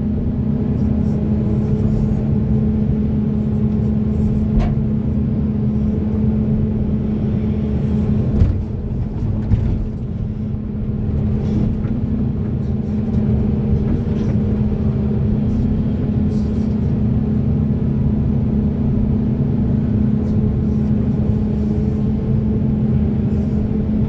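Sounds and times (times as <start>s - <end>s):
excavator diesel engine drone: 0.0s - 24.0s.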